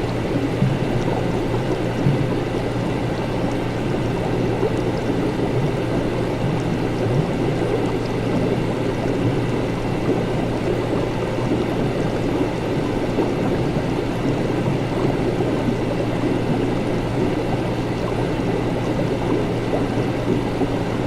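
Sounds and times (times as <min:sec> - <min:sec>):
liquid bubbling and gurgling: 0:00.0 - 0:21.0
low even hum: 0:00.0 - 0:21.0.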